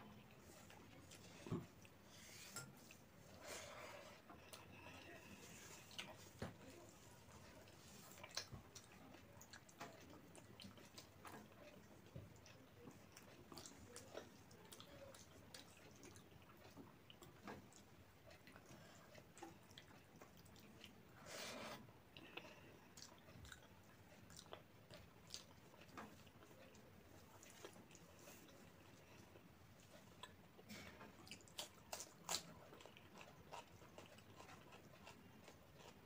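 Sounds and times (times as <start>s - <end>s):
person chewing: 4.1s - 36.0s.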